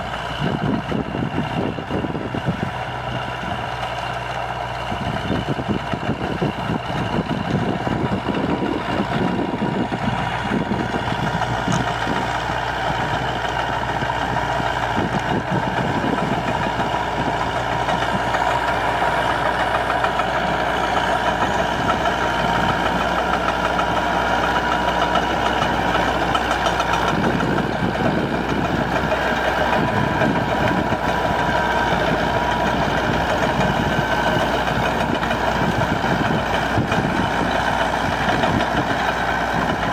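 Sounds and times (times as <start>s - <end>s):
rotary tiller in dry soil: 0.0s - 39.9s
tractor diesel engine running: 0.0s - 39.9s.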